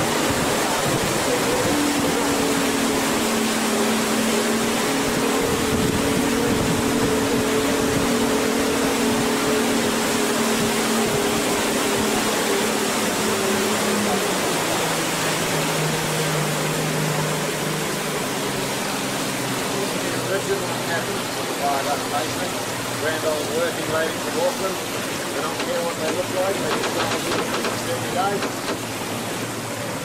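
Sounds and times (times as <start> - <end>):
boat engine droning: 0.0 - 30.0
wind and water rushing: 0.0 - 30.0.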